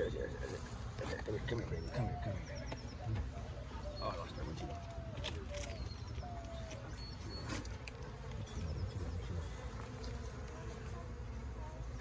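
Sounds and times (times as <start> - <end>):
bees buzzing: 0.0 - 5.2, 5.9 - 12.0.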